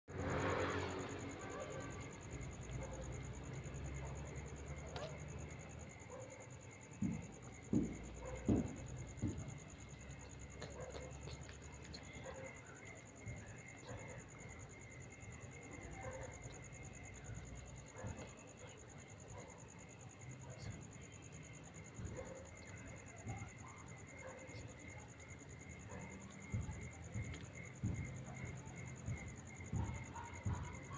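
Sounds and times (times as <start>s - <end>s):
night insects trilling: 0.1s - 30.9s.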